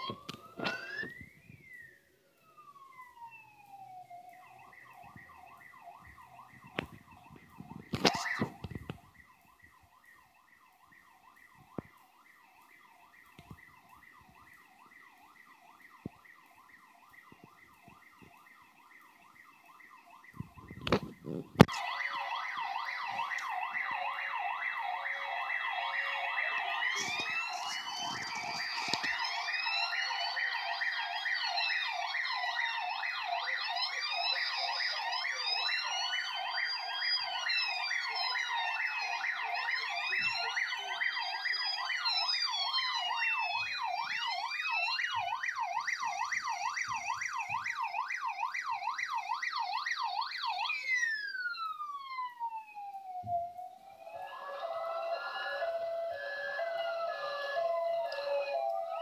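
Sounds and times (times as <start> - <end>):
emergency vehicle sirens: 0.0 - 59.0.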